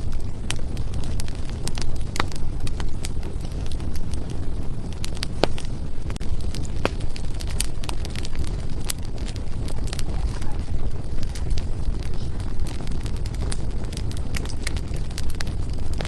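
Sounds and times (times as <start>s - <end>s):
firewood crackling and popping: 0.0s - 16.0s
low rumble of flames: 0.0s - 16.0s.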